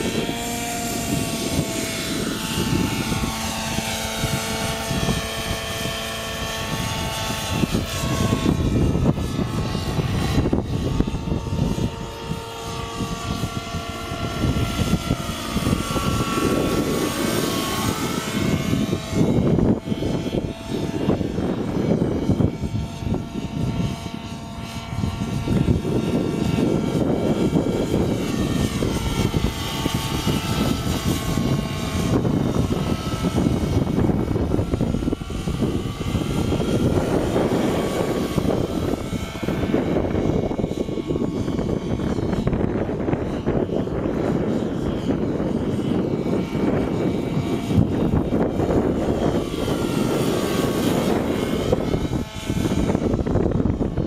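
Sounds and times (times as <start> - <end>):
model helicopter engine whine: 0.0 - 54.0.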